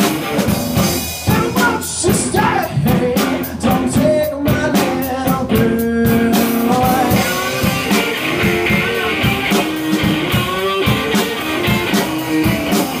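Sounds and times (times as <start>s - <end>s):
drum kit beat: 0.0s - 13.0s
electric guitar riffing: 0.0s - 13.0s.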